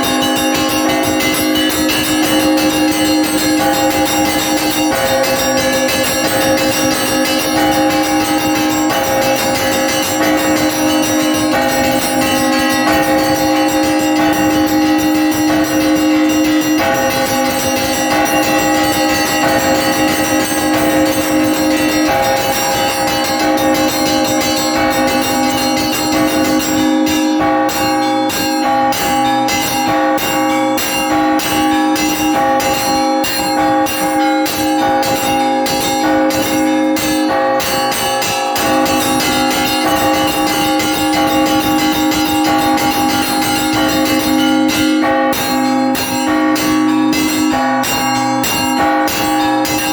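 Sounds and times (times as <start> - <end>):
large church bells ringing: 0.0 - 49.9
small bells struck rapidly: 0.0 - 49.9.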